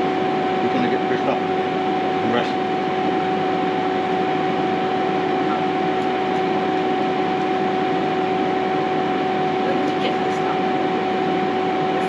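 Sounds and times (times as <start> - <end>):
two-note fan hum: 0.0 - 12.0.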